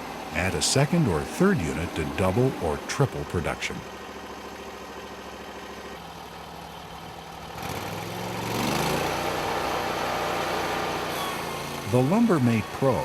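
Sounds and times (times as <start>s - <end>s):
sawmill engine revving: 0.0s - 13.0s.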